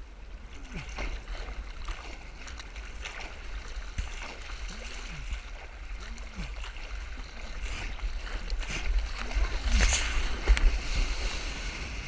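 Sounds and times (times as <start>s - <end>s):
water sloshing against surfboard: 0.0s - 12.0s.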